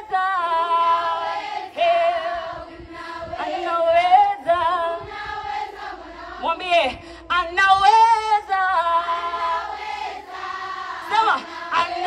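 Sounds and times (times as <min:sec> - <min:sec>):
woman singing over loudspeakers: 0:00.0 - 0:09.7, 0:10.8 - 0:12.0
group of voices singing along: 0:00.0 - 0:12.0.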